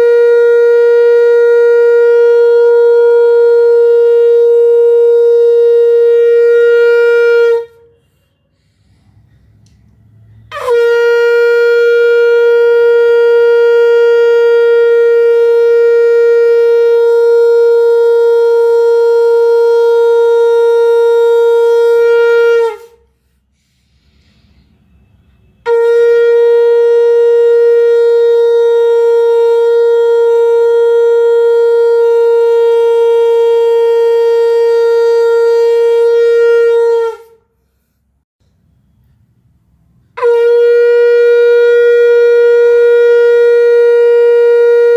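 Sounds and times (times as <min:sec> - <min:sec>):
conch shell blasts: 0:00.0 - 0:08.7, 0:10.3 - 0:23.1, 0:24.8 - 0:37.5, 0:40.0 - 0:44.9.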